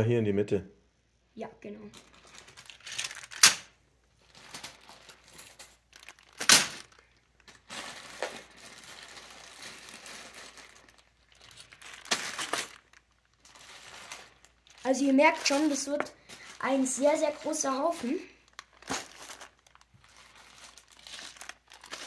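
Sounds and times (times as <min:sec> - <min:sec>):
plastic bags crinkling: 0:01.9 - 0:22.0.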